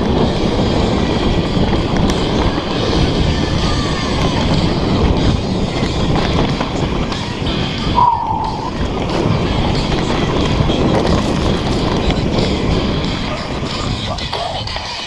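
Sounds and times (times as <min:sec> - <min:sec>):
bike tyres rumbling on rocky trail: 0:00.0 - 0:08.0, 0:08.6 - 0:15.0
wind buffeting microphone: 0:00.0 - 0:15.0.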